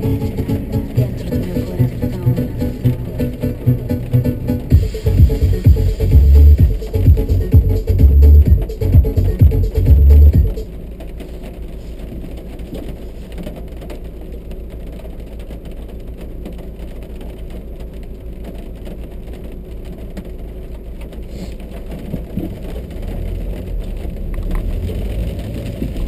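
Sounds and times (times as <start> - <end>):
car engine idling: 0.0 - 26.0
rain falling on car: 0.0 - 26.0.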